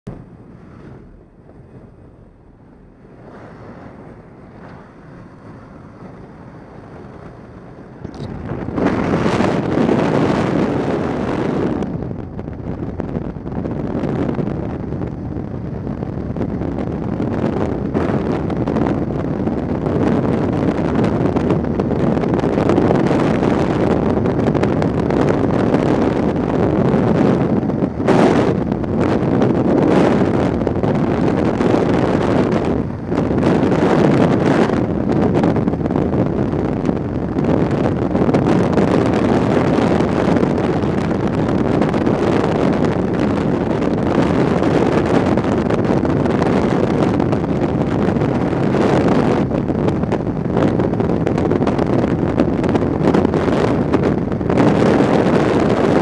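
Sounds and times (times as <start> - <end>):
wind buffeting microphone: 0.0 - 56.0
aircraft noise: 0.1 - 56.0.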